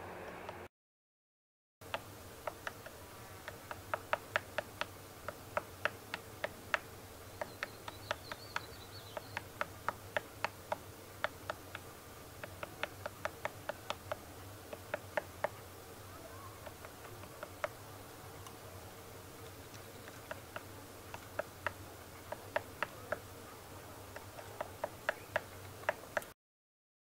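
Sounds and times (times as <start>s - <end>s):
woodpecker tapping on wood: 1.8s - 15.7s, 16.4s - 18.6s, 19.3s - 26.4s.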